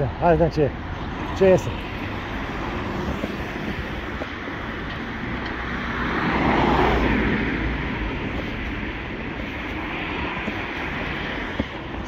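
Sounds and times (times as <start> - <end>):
road traffic noise: 0.0 - 12.0
vehicle passing close by: 1.1 - 12.0.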